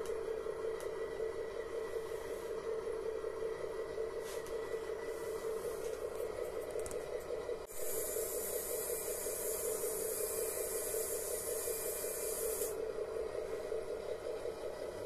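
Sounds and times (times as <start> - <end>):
model boom motor humming: 0.0 - 15.0.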